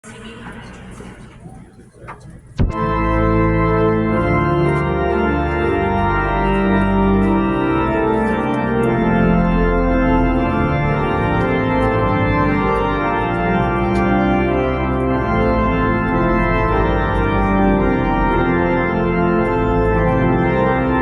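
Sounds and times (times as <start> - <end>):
church organ chords: 2.6 - 21.0.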